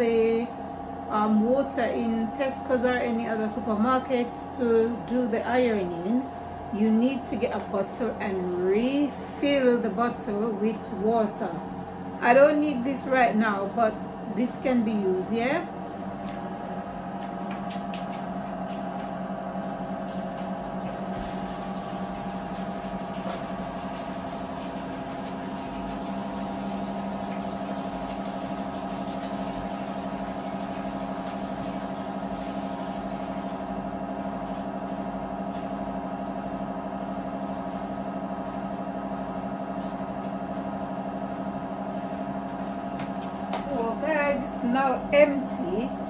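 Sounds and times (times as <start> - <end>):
laundry machine motor humming: 0.0 - 46.0.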